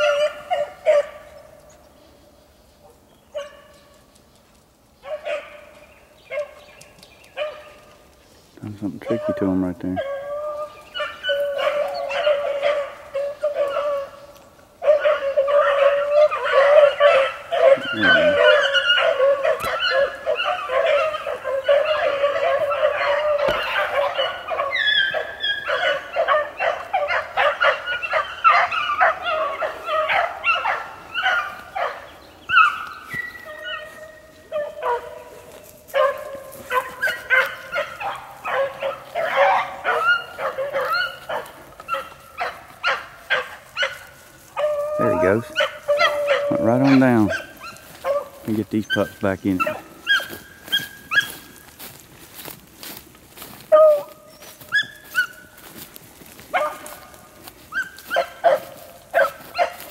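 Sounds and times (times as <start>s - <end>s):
beagles baying: 0.0s - 1.9s, 5.0s - 59.9s.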